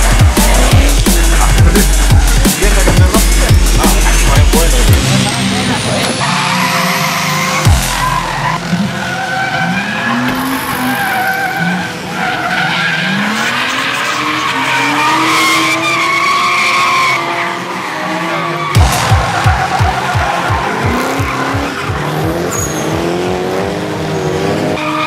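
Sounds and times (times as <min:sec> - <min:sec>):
car engine revving: 0:00.0 - 0:25.0
tyres squealing and skidding: 0:00.0 - 0:25.0.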